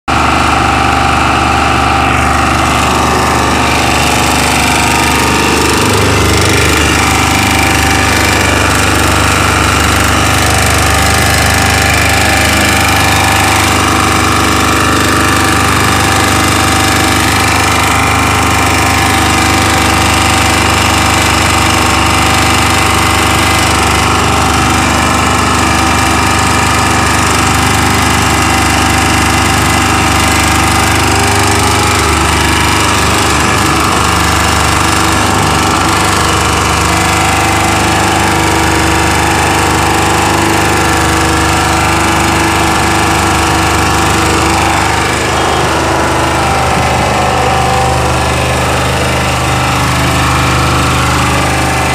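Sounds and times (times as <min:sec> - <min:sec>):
generator engine running: 0:00.0 - 0:51.9.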